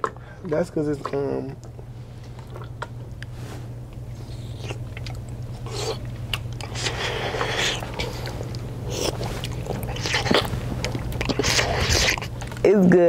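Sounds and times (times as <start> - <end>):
person chewing: 1.0 - 12.7.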